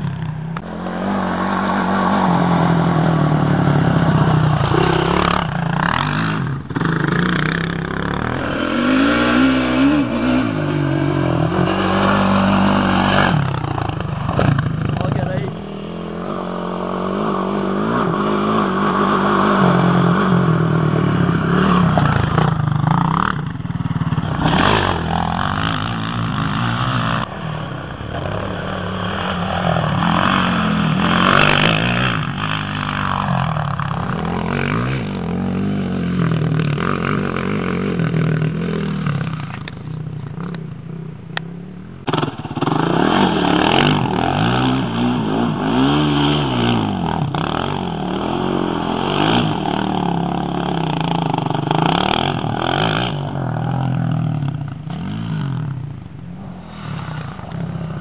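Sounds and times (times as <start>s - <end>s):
quad engine revving: 0.0s - 40.7s, 42.0s - 56.2s.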